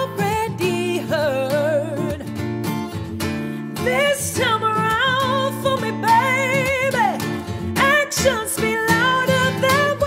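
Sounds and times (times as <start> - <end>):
woman singing without words: 0.0 - 2.5, 3.5 - 10.0
strummed acoustic guitar: 0.0 - 10.0.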